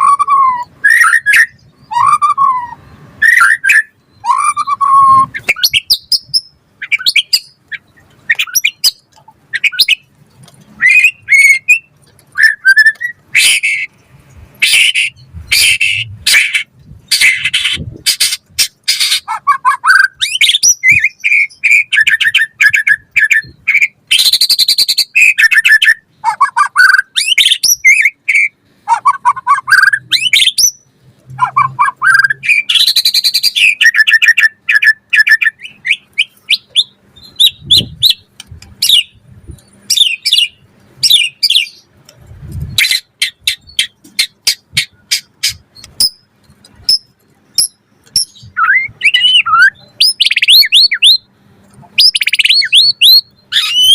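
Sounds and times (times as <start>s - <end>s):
shama singing whistled song: 0.0s - 10.1s, 10.8s - 14.0s, 14.6s - 39.2s, 46.9s - 51.3s, 52.0s - 53.9s.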